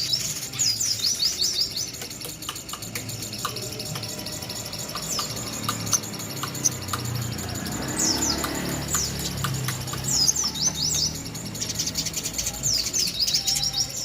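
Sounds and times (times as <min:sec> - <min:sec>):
bird chirping: 0:00.0 - 0:14.0
bird ticking notes: 0:00.0 - 0:14.0.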